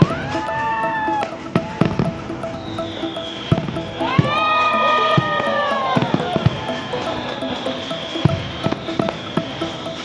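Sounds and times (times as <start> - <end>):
melodic music: 0.0 - 10.0.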